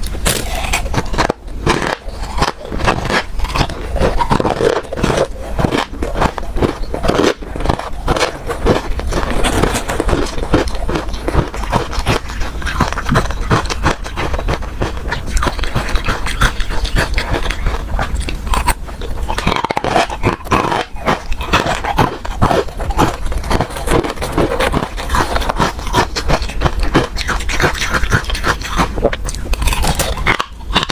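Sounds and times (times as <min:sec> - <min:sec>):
ice being crunched by mouth: 0:00.0 - 0:30.9.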